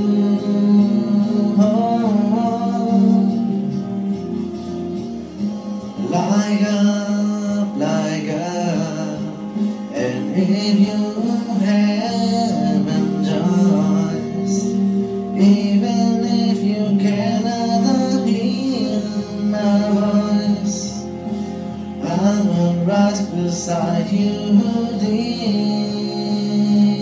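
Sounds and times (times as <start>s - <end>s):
man singing: 0.0s - 4.4s, 5.9s - 27.0s
keyboard chords: 0.0s - 27.0s.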